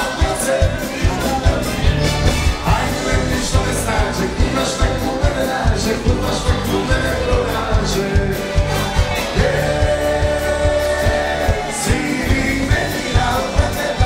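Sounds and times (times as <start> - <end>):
live band playing dance music: 0.0 - 14.0
person singing: 0.0 - 14.0
steady drum beat: 0.0 - 14.0.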